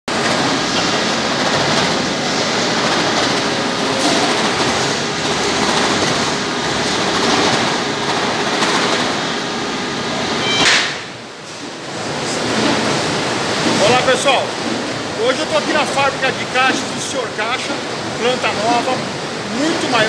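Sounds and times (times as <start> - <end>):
factory machinery din: 0.1 - 20.0.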